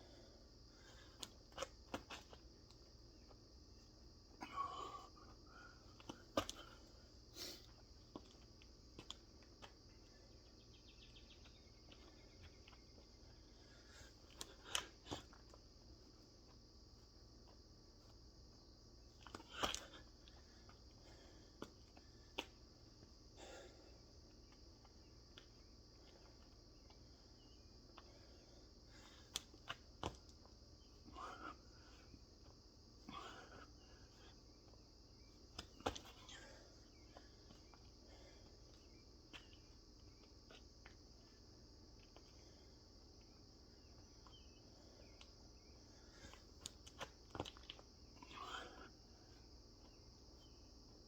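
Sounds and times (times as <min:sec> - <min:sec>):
crickets chirring: 0:00.0 - 0:51.0.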